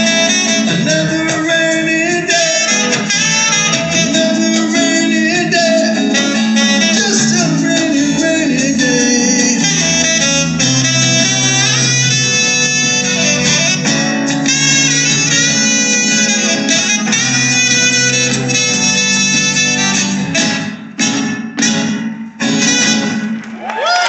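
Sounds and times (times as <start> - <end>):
strummed acoustic guitar: 0.0 - 23.4
electric keyboard chords: 0.0 - 23.6
saxophone: 0.0 - 23.8.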